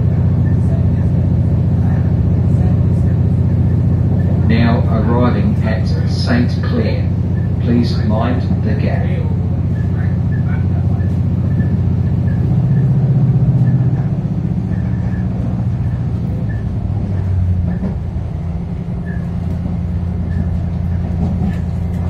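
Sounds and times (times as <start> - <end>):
diesel railcar hum: 0.0 - 22.0
train rolling noise: 0.0 - 22.0.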